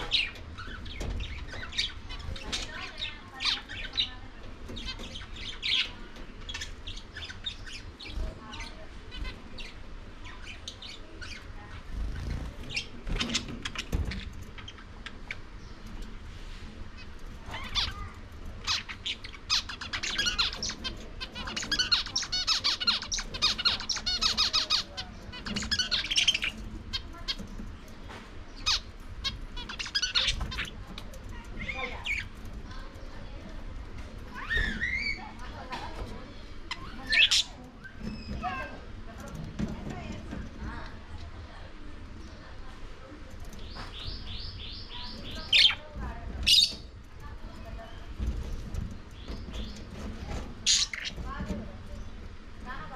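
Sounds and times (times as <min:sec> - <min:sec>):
budgerigars chirping: 0:00.0 - 0:15.8, 0:17.0 - 0:33.4, 0:34.0 - 0:38.8, 0:43.5 - 0:47.0, 0:47.6 - 0:52.2.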